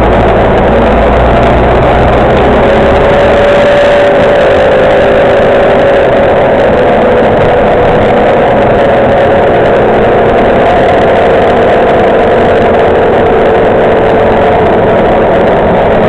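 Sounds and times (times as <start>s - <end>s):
bus engine running: 0.0s - 16.0s
whine falling in pitch: 0.0s - 16.0s.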